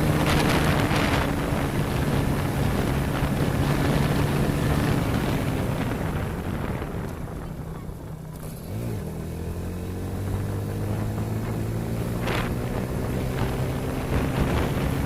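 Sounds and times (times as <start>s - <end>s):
motorcycle engine running: 0.0s - 15.0s
wind on microphone: 0.0s - 15.0s.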